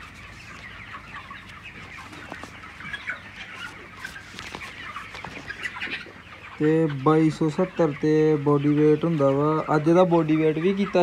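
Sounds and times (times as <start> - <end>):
chickens clucking and chirping: 0.0 - 11.0.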